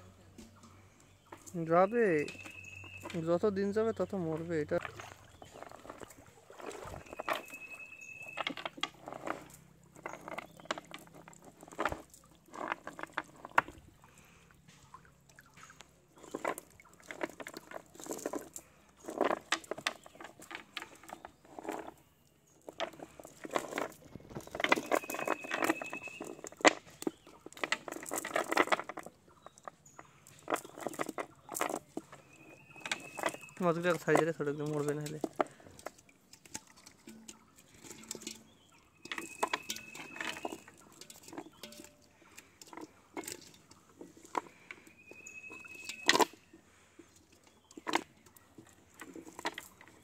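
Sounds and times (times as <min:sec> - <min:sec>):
wet pattering and tapping: 0:00.0 - 0:22.0, 0:22.6 - 0:50.0.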